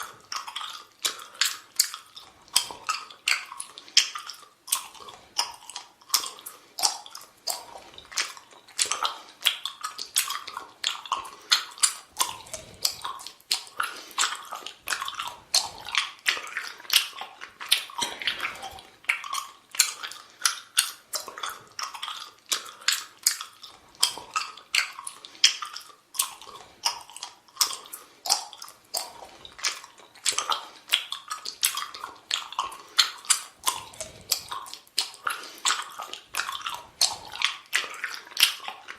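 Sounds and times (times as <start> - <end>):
person chewing bubble gum: 0.0 - 38.9.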